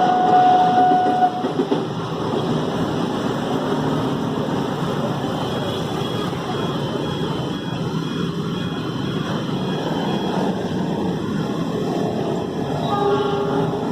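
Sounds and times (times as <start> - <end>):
rumble of passing vehicles: 0.0 - 13.9.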